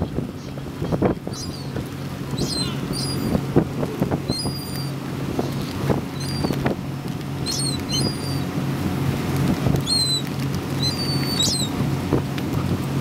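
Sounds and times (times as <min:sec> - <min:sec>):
gulls calling: 0:00.0 - 0:09.0, 0:09.6 - 0:12.0
boat engine hum: 0:00.0 - 0:13.0
wind on microphone: 0:00.0 - 0:13.0.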